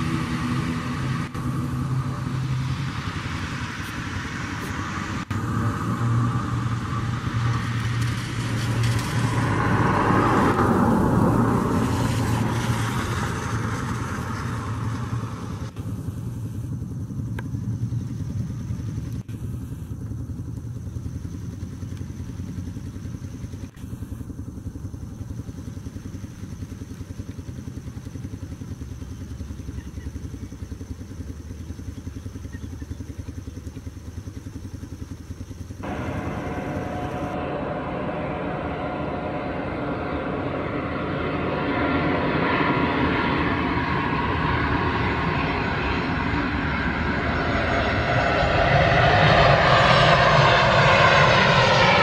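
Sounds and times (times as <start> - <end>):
jet engine on approach: 0.0 - 52.0
turboprop propeller drone: 0.0 - 52.0.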